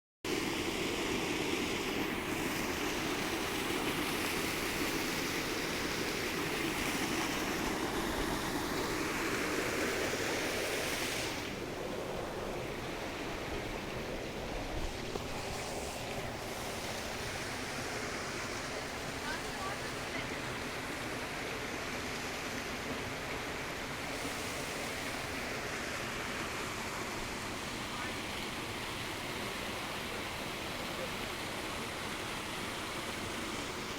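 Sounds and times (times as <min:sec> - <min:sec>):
water rushing: 0:00.3 - 0:33.9.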